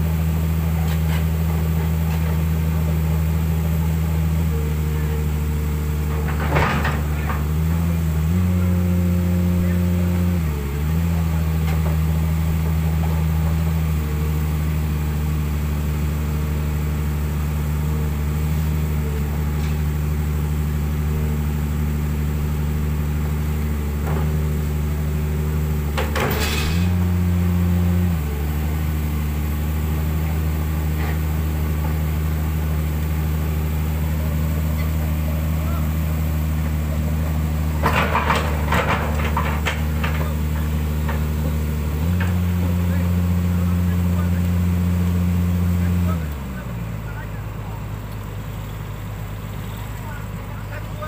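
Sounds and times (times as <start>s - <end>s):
excavator diesel engines running: 0.0s - 51.0s.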